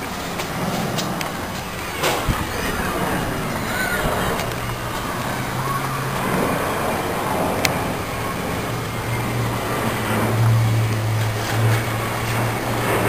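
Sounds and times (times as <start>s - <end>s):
vehicle droning hum: 0.0s - 13.0s.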